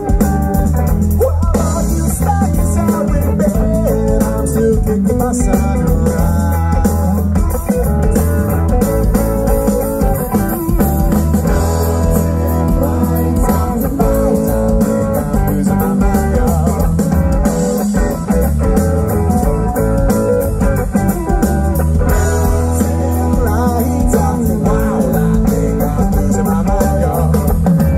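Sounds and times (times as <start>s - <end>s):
live rock band playing loud: 0.0s - 27.9s.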